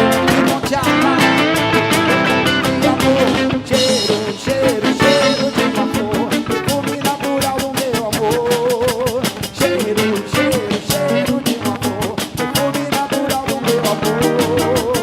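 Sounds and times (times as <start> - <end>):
live band playing upbeat song: 0.0 - 15.0.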